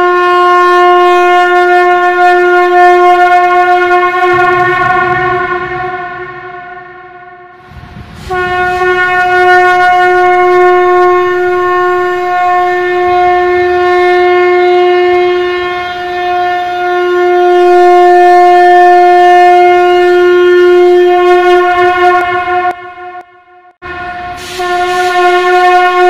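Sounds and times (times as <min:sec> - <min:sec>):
conch shell blast: 0:00.0 - 0:26.0.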